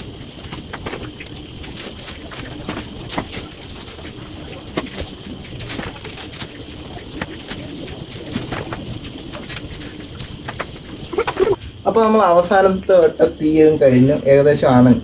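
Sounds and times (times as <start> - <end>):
open fire crackling and popping: 0.0 - 14.0
high insect drone: 0.0 - 15.0.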